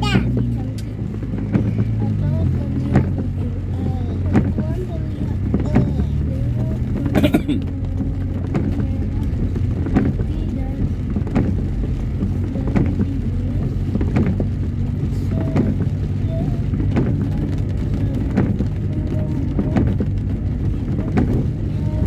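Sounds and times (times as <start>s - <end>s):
engine and tyres on wet road: 0.0s - 22.0s
windscreen wipers clicking: 0.0s - 22.0s.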